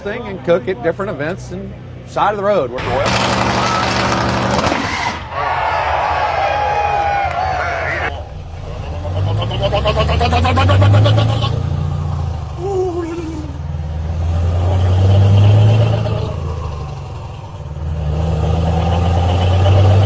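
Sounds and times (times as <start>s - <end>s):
vehicle engine revving: 1.3s - 20.0s.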